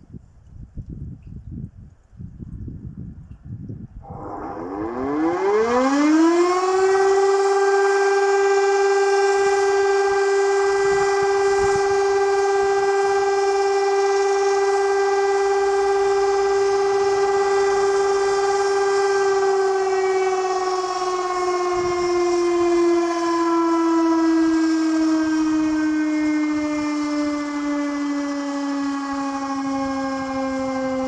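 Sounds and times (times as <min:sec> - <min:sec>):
electric motor siren: 0:04.0 - 0:31.0.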